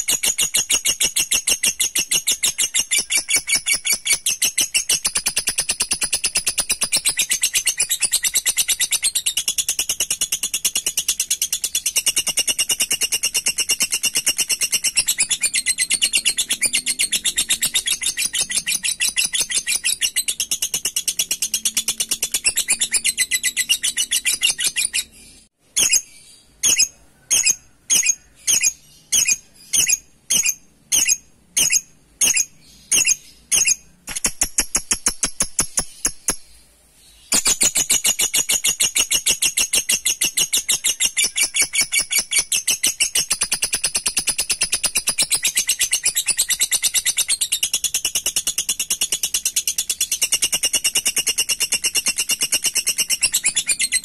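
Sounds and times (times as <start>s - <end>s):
lovebird chattering trill: 0.0s - 36.6s, 37.2s - 54.0s
sharp bird calls: 0.0s - 54.0s.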